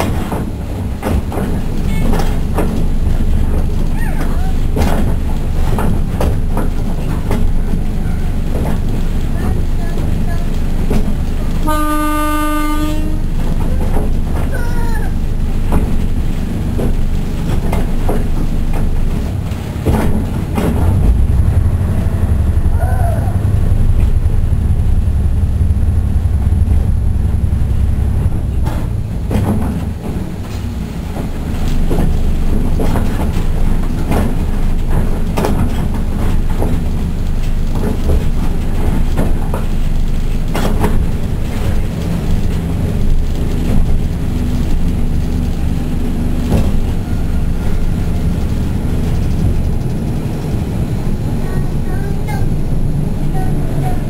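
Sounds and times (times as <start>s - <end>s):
railcar engine drone: 0.0s - 54.0s
wheels clacking over rail joints: 0.0s - 54.0s.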